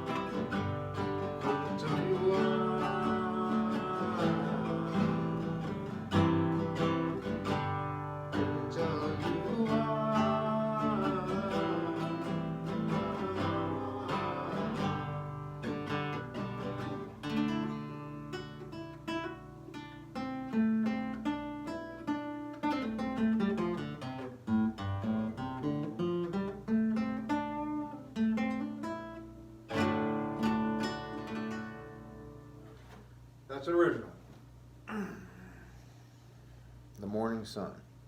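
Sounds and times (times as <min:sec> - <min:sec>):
nylon-string guitar playing: 0:00.0 - 0:33.0.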